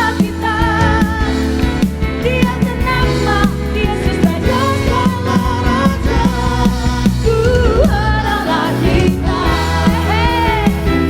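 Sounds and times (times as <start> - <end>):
worship band with singers: 0.0 - 11.0.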